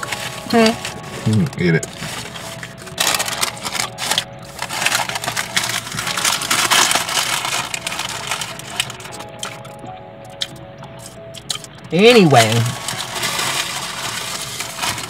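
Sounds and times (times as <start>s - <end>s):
crunching fried food: 0.0s - 9.8s, 10.4s - 15.0s
paper wrapper rustling: 0.0s - 9.8s, 10.4s - 15.0s.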